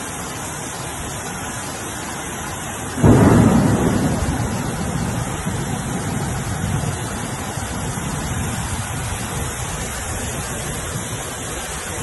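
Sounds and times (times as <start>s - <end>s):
floodwater rushing: 0.0s - 12.0s
heavy rain: 0.0s - 12.0s.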